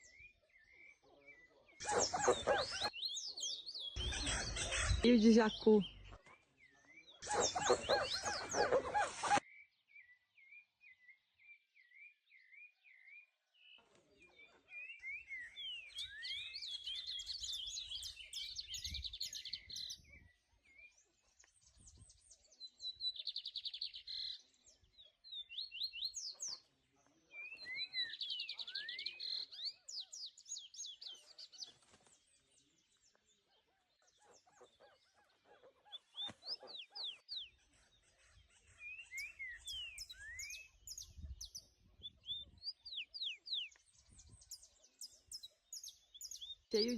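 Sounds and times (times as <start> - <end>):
birds chirping: 0.0 - 9.4, 11.8 - 46.9.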